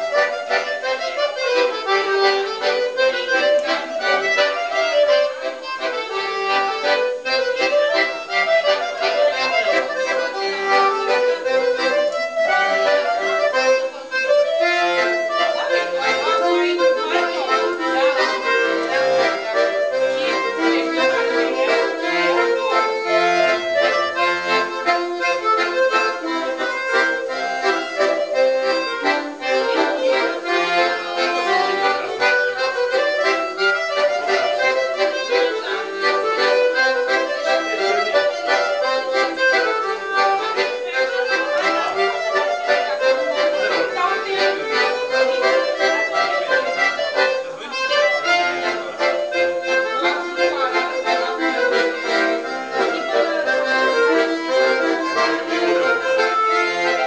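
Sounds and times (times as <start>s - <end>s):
accordion dance tune: 0.0s - 57.0s.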